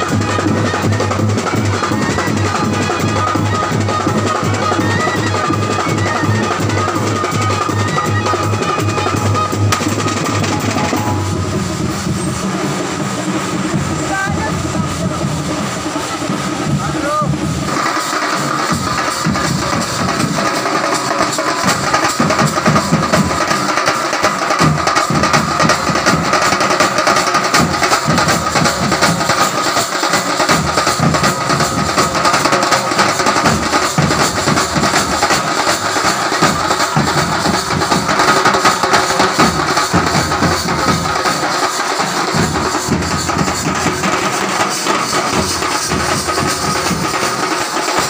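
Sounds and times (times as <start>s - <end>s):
snare and bass drums beating: 0.0s - 48.0s.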